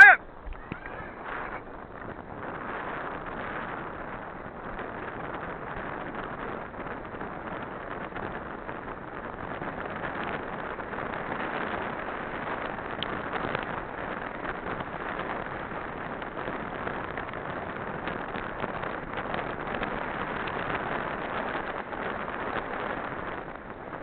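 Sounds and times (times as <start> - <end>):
wind on microphone: 0.0 - 24.0
bicycle tyres on dirt track: 0.1 - 24.0.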